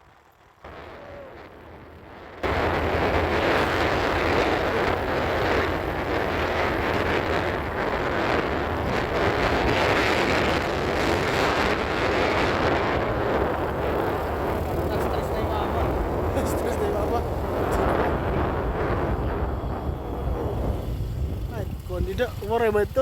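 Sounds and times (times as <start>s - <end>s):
wind buffeting microphone: 0.0s - 23.0s
moving vehicle rushing noise: 0.6s - 21.9s.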